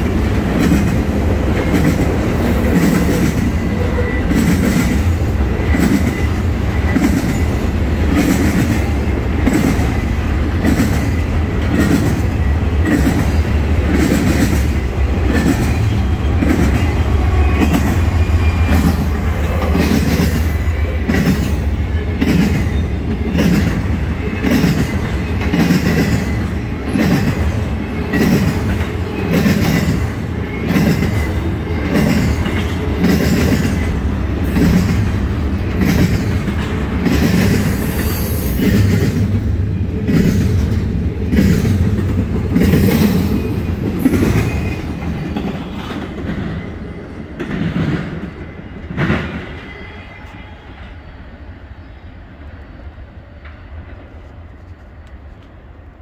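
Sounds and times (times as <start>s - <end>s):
train wheels clickety-clack: 0.0s - 49.8s
freight train cars rumbling: 0.0s - 56.0s.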